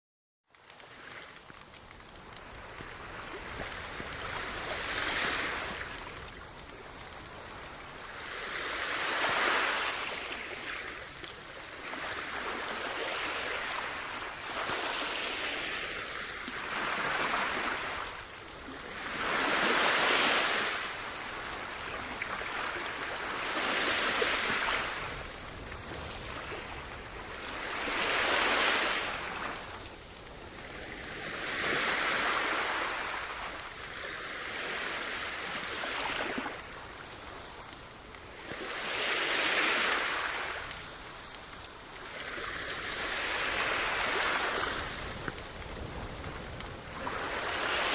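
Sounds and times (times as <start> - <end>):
sea waves breaking on beach: 0.6 - 47.9.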